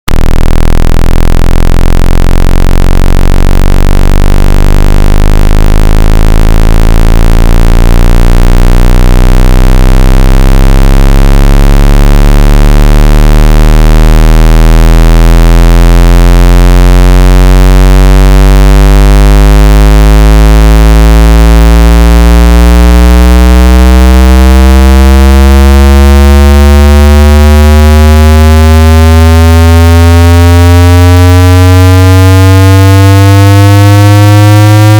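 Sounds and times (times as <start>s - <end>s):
distorted rising test tone: 0.0s - 34.9s.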